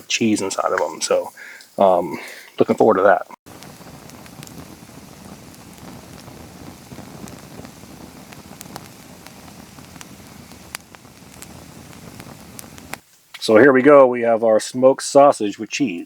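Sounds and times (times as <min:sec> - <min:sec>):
campfire crackling: 0:00.0 - 0:14.9.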